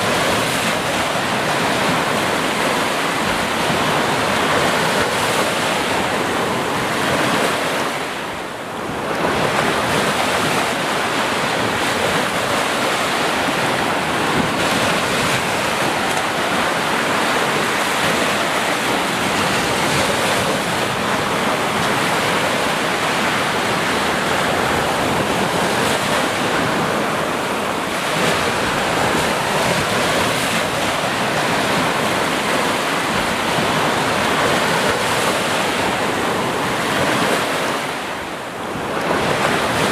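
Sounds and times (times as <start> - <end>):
sea surf washing in: 0.0 - 39.9.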